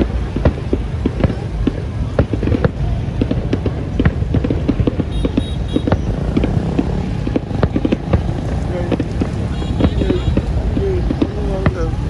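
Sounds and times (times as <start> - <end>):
fireworks popping and cracking: 0.0 - 12.0.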